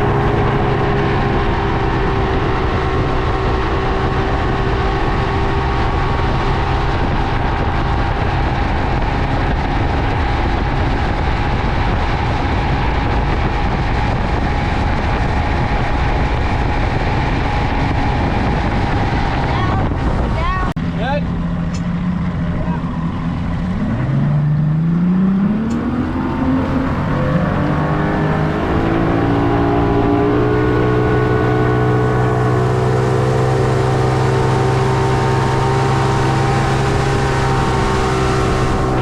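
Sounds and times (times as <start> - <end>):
hull rushing through water: 0.0 - 39.0
motorboat engine rumble: 0.0 - 39.0.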